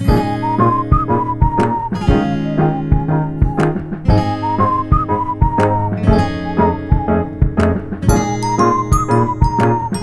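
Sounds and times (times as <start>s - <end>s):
light music with steady beat: 0.0s - 10.0s.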